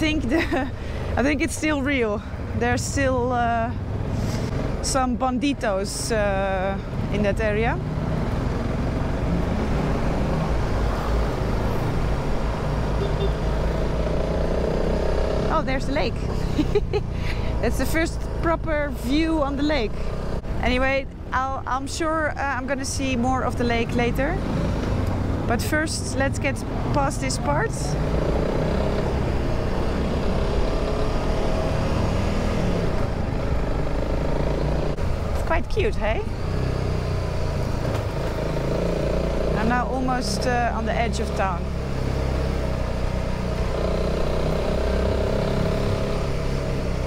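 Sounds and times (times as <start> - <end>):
motorcycle engine rumbling: 0.0 - 47.0
road and traffic noise: 0.0 - 47.0.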